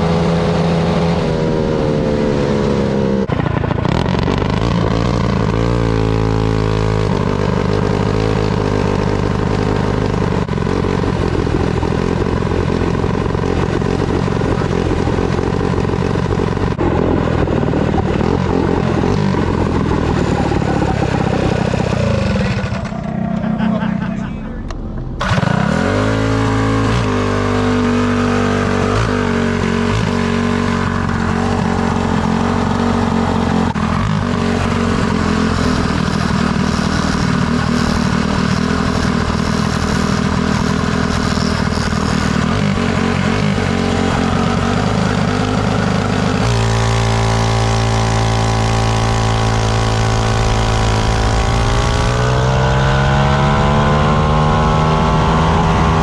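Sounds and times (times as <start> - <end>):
minibike engine revving: 0.0 - 56.0.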